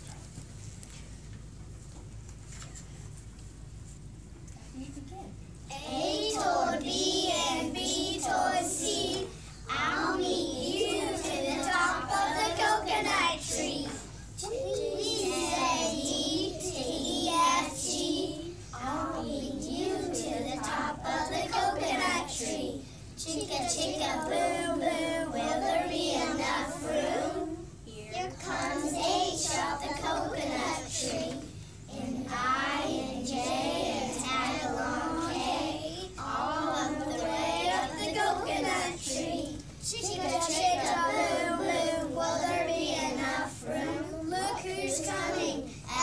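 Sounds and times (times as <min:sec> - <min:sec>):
young children singing: 0:05.7 - 0:46.0.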